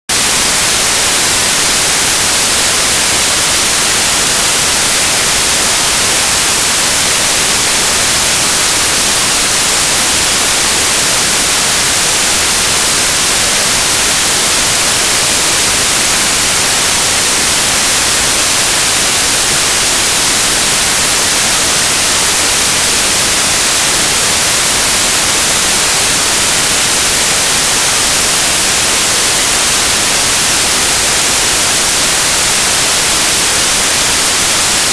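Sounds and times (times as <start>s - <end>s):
white noise hiss: 0.1s - 34.9s.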